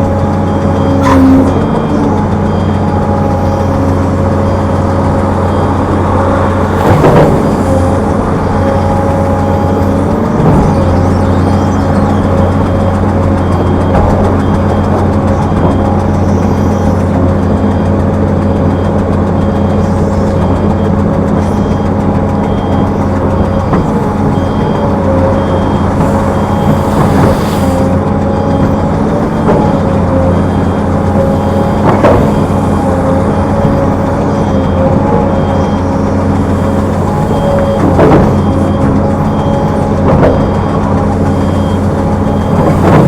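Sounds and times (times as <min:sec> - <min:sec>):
diesel machinery engine drone: 0:00.0 - 0:43.0.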